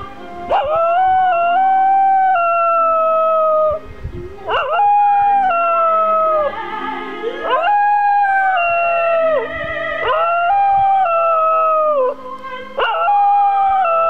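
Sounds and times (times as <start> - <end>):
dog howling: 0.5 - 6.6, 7.2 - 12.2, 12.8 - 14.0.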